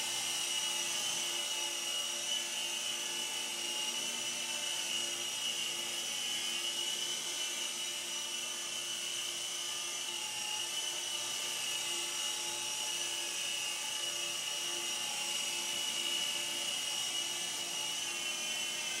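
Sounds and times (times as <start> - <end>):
toy helicopter rotor whine: 0.0 - 19.0.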